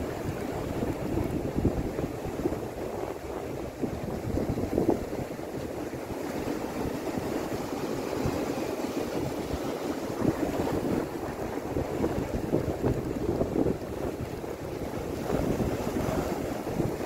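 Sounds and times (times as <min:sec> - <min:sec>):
rushing water: 0:00.0 - 0:17.0
wind buffeting microphone: 0:00.0 - 0:17.0.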